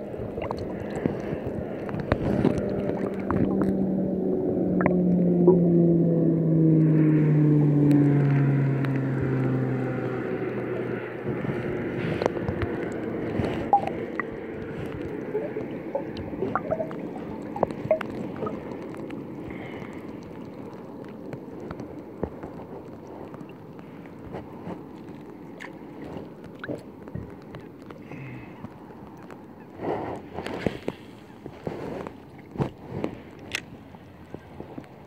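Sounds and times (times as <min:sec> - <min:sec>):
water ticks and drips: 0:00.0 - 0:04.0, 0:04.7 - 0:05.6, 0:07.6 - 0:35.0
low droning hum: 0:00.0 - 0:35.0
water lapping and splashing: 0:00.0 - 0:35.0.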